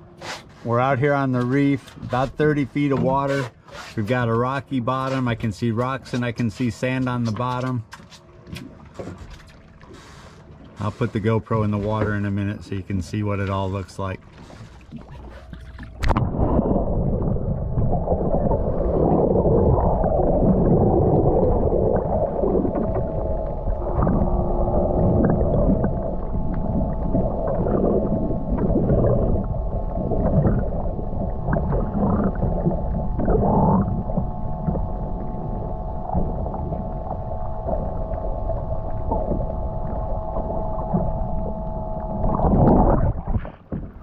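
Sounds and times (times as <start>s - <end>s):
faint steady hum: 0.0s - 44.0s
water rushing and gurgling: 6.7s - 44.0s.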